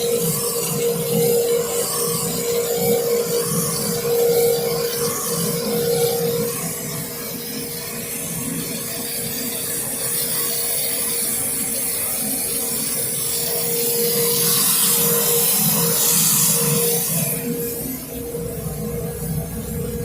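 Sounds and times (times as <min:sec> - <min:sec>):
grinding machine motor hum: 0:00.0 - 0:20.0
grinding wheel hissing on metal: 0:00.0 - 0:20.0.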